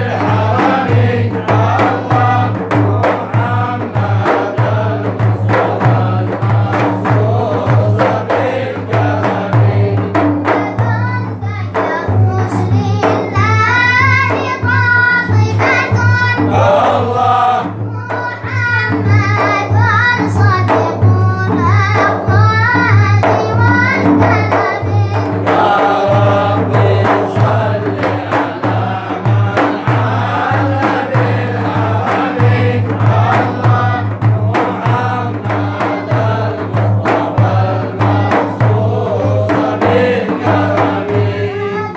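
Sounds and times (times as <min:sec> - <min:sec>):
steady beat: 0:00.0 - 0:11.2, 0:11.9 - 0:21.4, 0:22.0 - 0:41.9
group chanting devotional song: 0:00.0 - 0:41.9
lead voice singing: 0:00.0 - 0:41.9.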